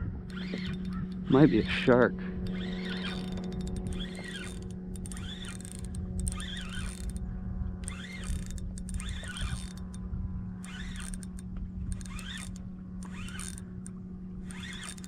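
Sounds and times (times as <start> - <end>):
steady low hum: 0.0 - 15.0
fishing reel squeaking: 0.2 - 15.0.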